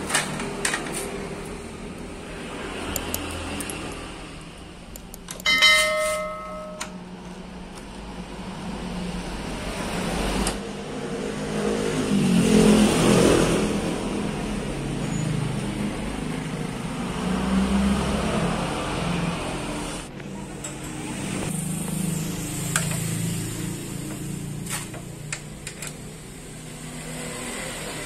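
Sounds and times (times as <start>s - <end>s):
motor vehicles passing: 0.0s - 28.0s.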